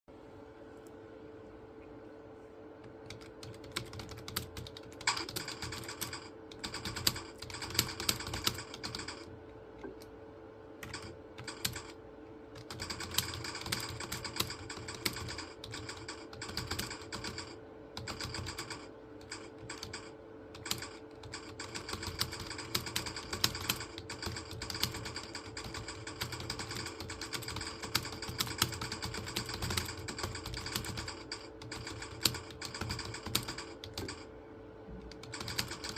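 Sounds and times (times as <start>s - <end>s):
steady low hum: 0.1s - 35.9s.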